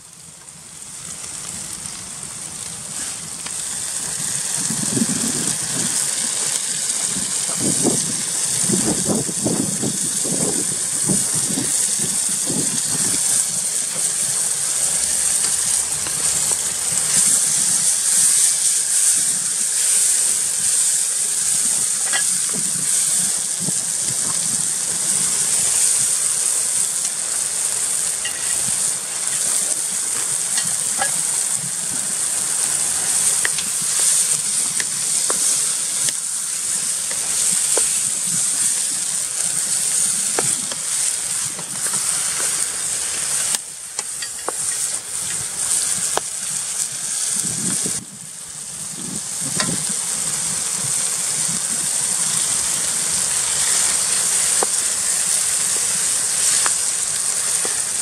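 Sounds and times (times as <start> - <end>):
sauce sizzling in a frying pan: 0.0 - 58.0.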